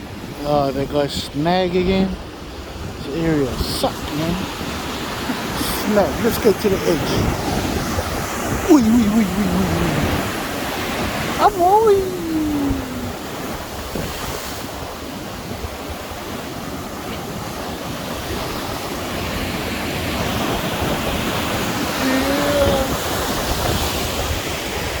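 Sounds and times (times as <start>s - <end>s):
wind buffeting microphone: 0.0s - 8.7s, 9.8s - 25.0s
waves rushing: 0.0s - 25.0s.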